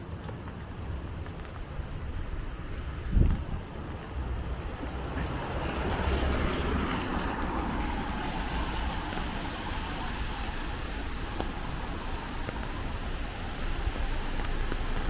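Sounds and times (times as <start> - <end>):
tyres hissing on wet road: 1.4 - 15.0.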